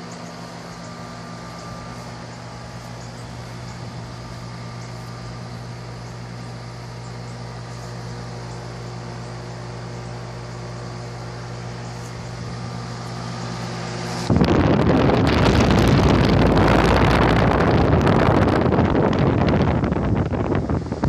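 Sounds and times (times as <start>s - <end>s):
air conditioner unit humming: 0.0s - 21.0s
fan air rushing across microphone: 0.0s - 21.0s.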